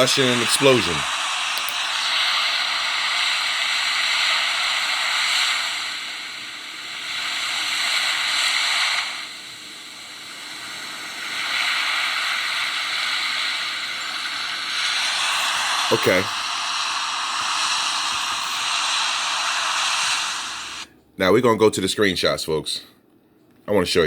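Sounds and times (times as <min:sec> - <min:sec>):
loud rushing hiss: 0:00.0 - 0:20.9.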